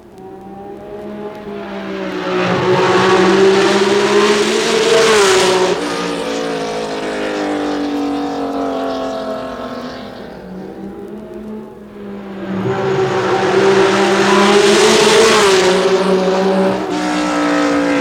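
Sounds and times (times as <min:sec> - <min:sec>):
race cars passing by: 0:00.0 - 0:18.0.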